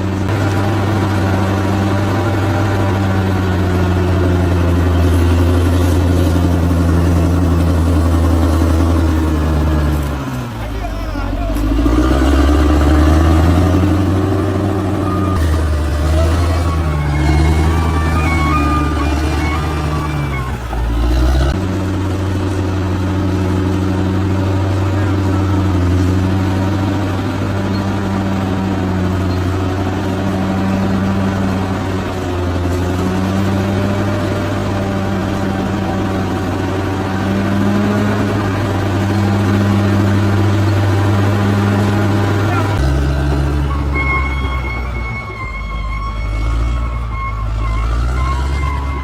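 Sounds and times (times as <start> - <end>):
bulldozer diesel engine droning: 0.0 - 49.0.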